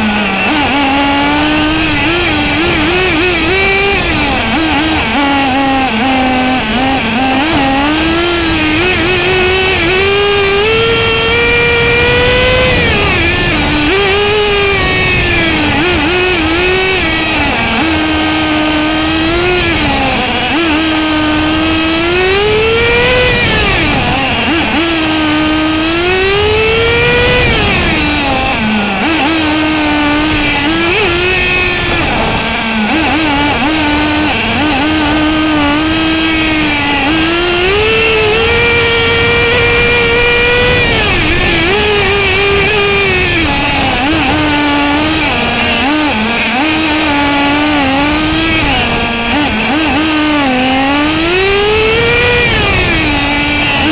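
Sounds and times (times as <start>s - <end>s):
nitro engine revving: 0.0s - 53.9s.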